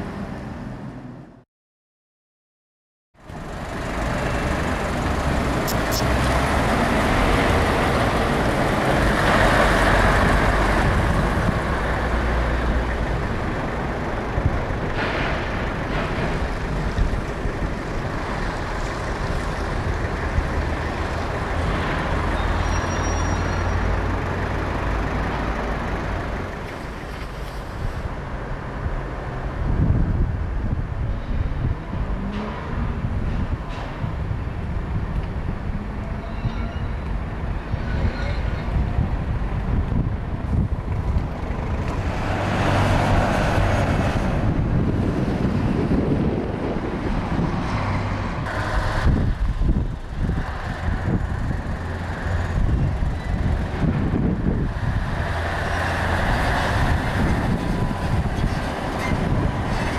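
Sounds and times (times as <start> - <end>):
diesel truck engine rumble: 3.2 - 36.2, 36.9 - 59.9
tyre and road noise: 3.2 - 59.9.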